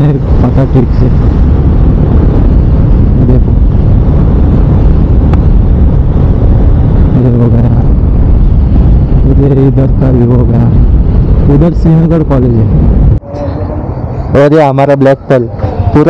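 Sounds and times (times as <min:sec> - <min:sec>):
motorcycle engine rumble: 0:00.0 - 0:14.5
wind buffeting microphone: 0:00.0 - 0:16.0.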